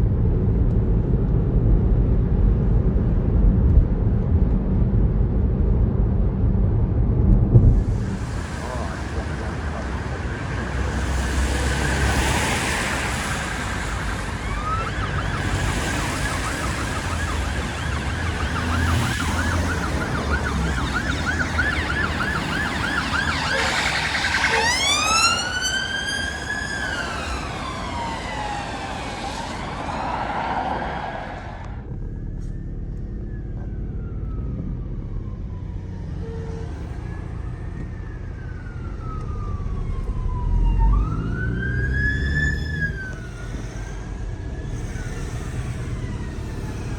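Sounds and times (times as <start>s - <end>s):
vehicle engine and road noise: 0.0s - 46.9s
emergency vehicle siren: 7.7s - 46.9s.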